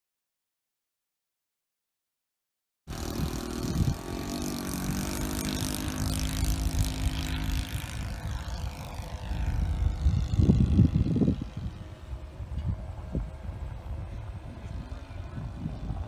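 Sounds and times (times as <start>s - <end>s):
model plane engine passing: 2.9s - 16.0s.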